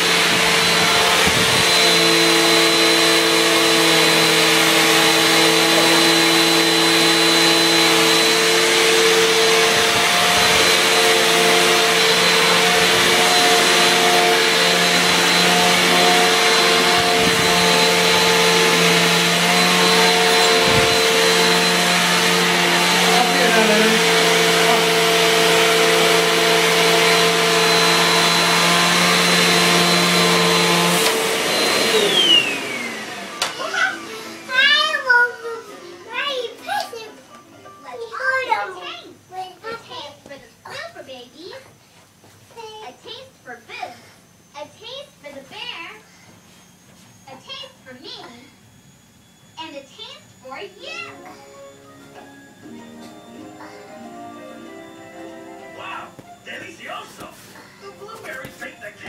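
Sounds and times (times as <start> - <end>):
vacuum cleaner motor running: 0.0 - 37.2, 43.9 - 59.0.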